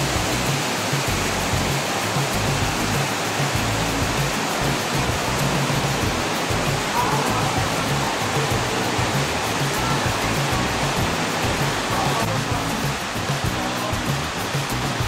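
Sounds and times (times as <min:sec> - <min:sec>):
background music with bass line: 0:00.0 - 0:15.0
heavy rain hissing: 0:00.0 - 0:15.0.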